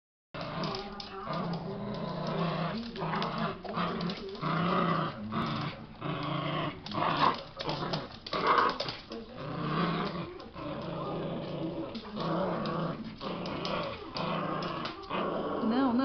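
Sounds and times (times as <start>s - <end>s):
dog growling: 0.4s - 16.0s.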